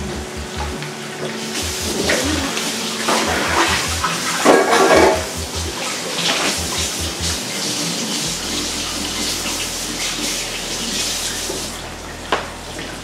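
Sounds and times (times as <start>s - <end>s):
burger patties sizzling: 0.0s - 11.8s.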